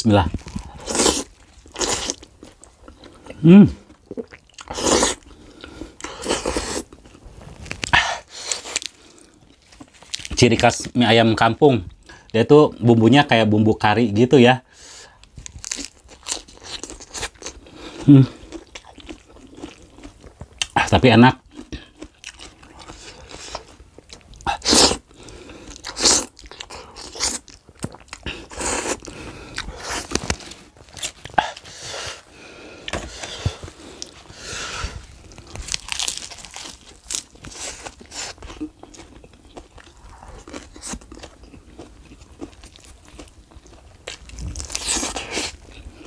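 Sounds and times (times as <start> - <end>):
person slurping and chewing: 0.3 - 10.2, 15.6 - 20.9, 21.5 - 46.0.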